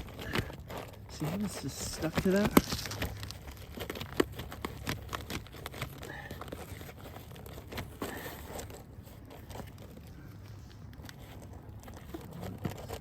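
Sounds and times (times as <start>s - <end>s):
roofing shingle tearing and crackling: 0.0s - 13.0s.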